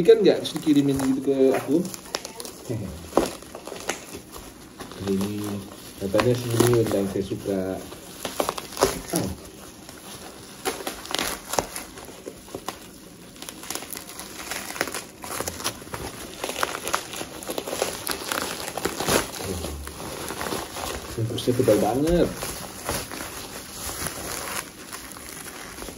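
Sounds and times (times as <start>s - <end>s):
bubble wrap crinkling and crackling: 0.0s - 25.9s.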